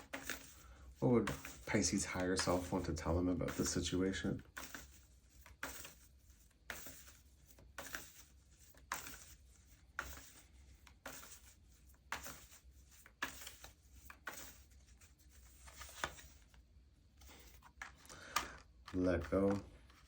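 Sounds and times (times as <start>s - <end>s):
tarot cards being shuffled: 0.0s - 16.6s, 17.2s - 20.0s.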